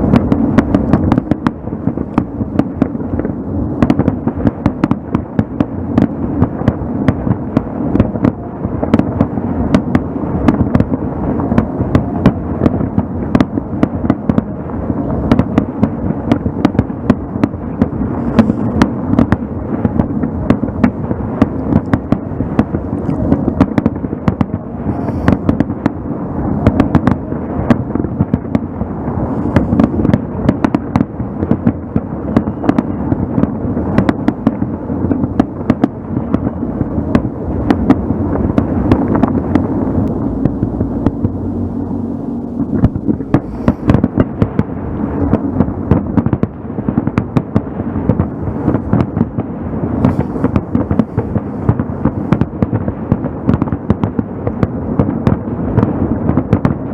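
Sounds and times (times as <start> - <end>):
firework bangs and crackles: 0.0 - 56.9
rumble of firework shell bursts: 0.0 - 56.9.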